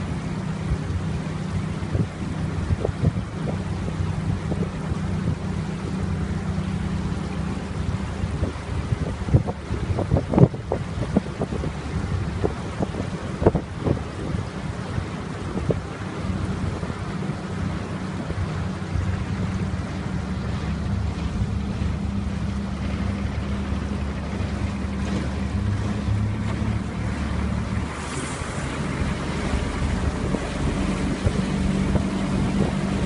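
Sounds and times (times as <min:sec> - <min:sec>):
boat motor humming: 0:00.0 - 0:33.0
water rushing past hull: 0:00.0 - 0:33.0
wind buffeting microphone: 0:00.0 - 0:33.0.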